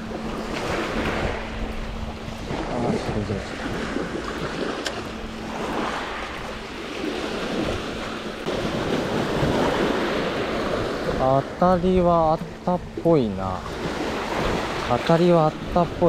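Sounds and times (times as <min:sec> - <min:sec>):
waves washing on gravel beach: 0:00.0 - 0:16.0
wind buffeting microphone: 0:00.0 - 0:16.0.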